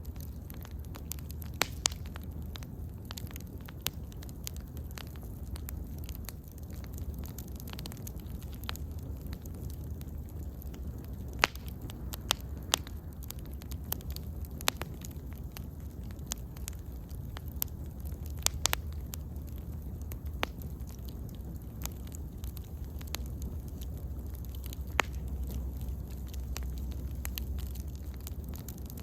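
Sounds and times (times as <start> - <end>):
bonfire crackling and popping: 0.0 - 29.0
low steady rumble: 0.0 - 29.0.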